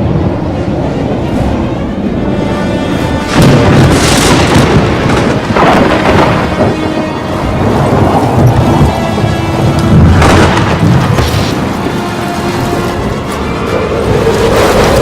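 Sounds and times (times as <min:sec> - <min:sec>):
steady rain: 0:00.0 - 0:15.0
loud thunderclaps: 0:03.0 - 0:15.0.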